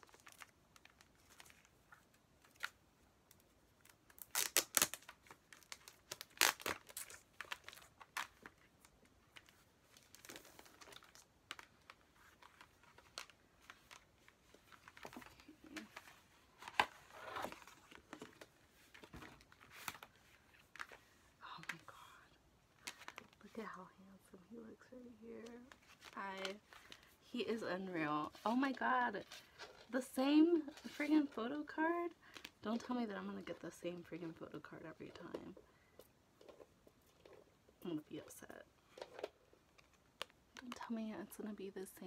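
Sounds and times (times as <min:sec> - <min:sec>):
plastic wrapping crinkling: 0:00.0 - 0:21.8, 0:22.7 - 0:23.8, 0:24.9 - 0:37.5.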